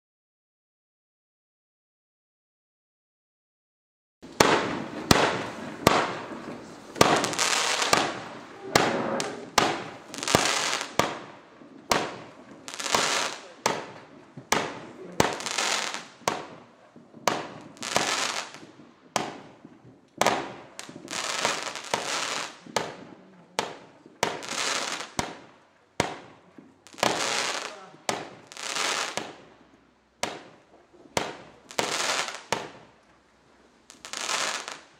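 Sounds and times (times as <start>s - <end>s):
firework cake sharp bangs: 4.2s - 33.0s.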